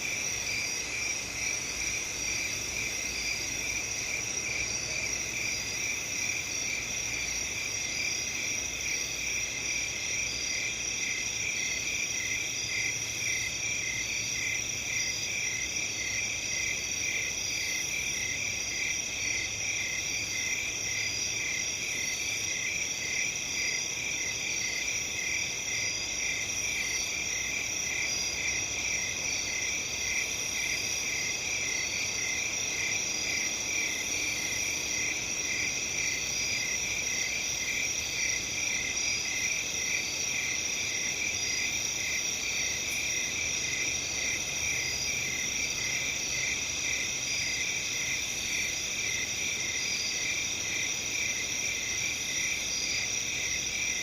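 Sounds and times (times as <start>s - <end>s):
crickets chirping: 0.0s - 54.0s
high continuous insect trills: 0.0s - 54.0s.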